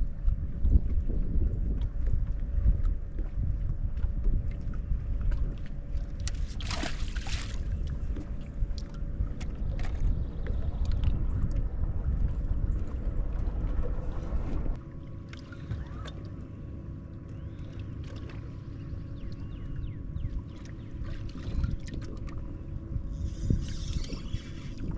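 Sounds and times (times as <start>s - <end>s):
wind buffeting microphone: 0.0s - 14.8s, 18.6s - 24.9s
faint steady hum: 0.0s - 24.9s
water lapping against hull: 0.0s - 24.9s.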